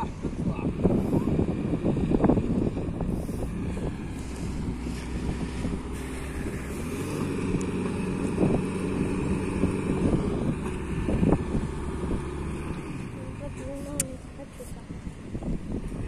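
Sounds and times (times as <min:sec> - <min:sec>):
engine running under load: 0:00.0 - 0:16.0
wind buffeting microphone: 0:00.0 - 0:16.0.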